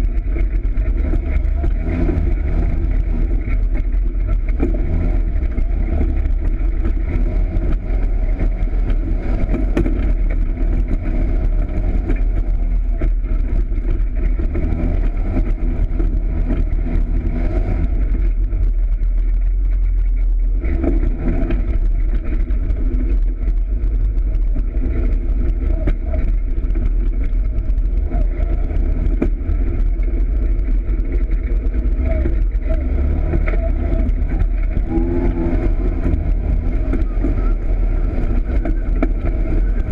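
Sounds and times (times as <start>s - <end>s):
off-road vehicle engine droning: 0.0s - 39.9s.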